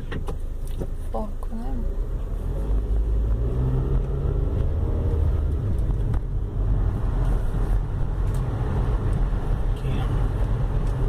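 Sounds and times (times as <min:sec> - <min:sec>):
car engine hum and road rumble: 0:00.0 - 0:11.0.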